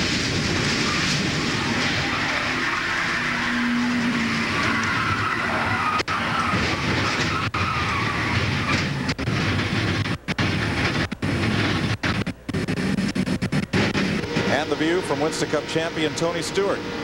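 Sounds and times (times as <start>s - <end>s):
race car engine and road roar: 0.0s - 17.0s.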